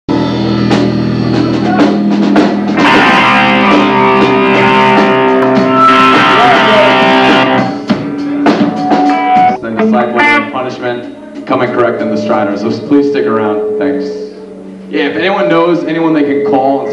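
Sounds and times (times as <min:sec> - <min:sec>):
rock band playing: 0:00.1 - 0:16.9
guitar notes ringing: 0:02.6 - 0:16.9.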